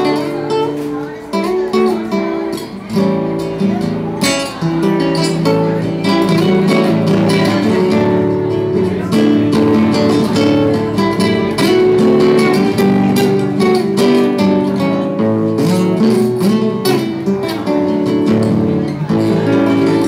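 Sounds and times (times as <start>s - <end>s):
guitar picking notes: 0.0s - 20.0s
guitar strummed: 0.0s - 20.0s.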